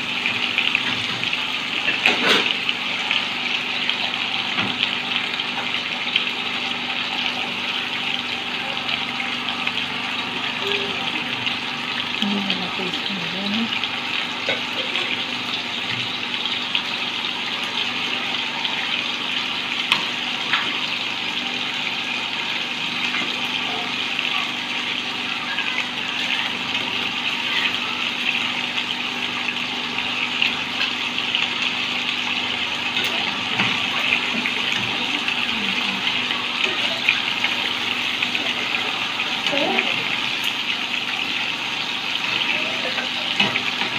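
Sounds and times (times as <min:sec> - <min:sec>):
fish sizzling in oil: 0:00.0 - 0:43.9.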